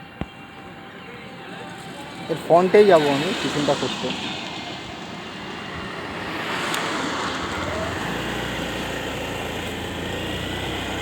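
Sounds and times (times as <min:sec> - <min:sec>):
motorcycle engine hum: 0:00.0 - 0:11.0
road traffic: 0:00.0 - 0:11.0
wind: 0:00.0 - 0:11.0.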